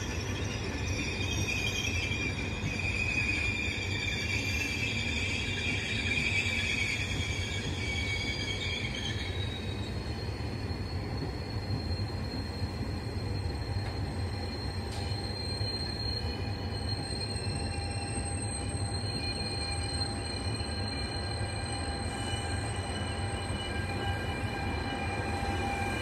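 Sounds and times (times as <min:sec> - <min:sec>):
train rumbling: 0:00.0 - 0:26.0
train wheels squealing: 0:00.0 - 0:26.0.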